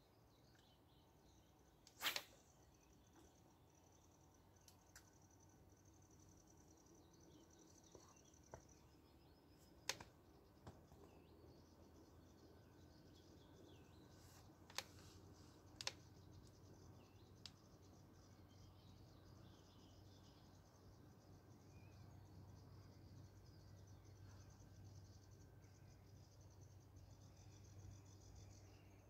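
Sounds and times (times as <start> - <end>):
faint birdsong: 0.0 - 29.0.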